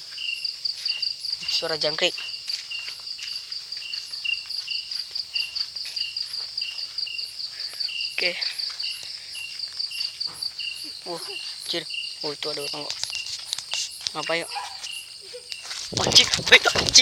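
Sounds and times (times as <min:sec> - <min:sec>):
crickets trilling: 0:00.0 - 0:17.0
lower cricket chirp: 0:00.0 - 0:17.0.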